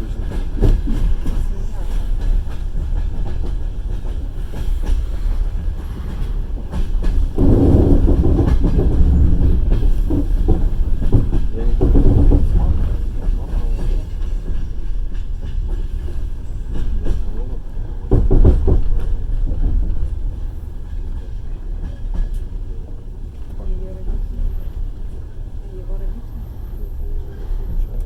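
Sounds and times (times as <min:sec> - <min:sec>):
train rumbling on rails: 0:00.0 - 0:28.0
wheels clattering over rail joints: 0:00.2 - 0:25.2.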